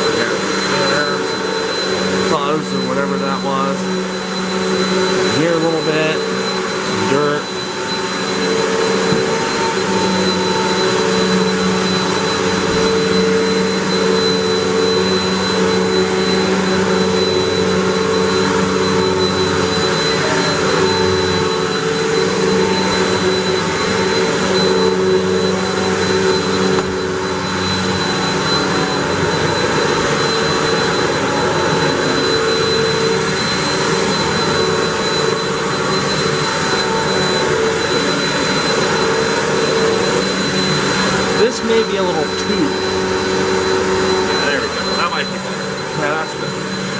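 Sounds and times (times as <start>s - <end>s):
high-pitched motor whine: 0.0s - 46.9s
vacuum cleaner on carpet: 0.0s - 46.9s.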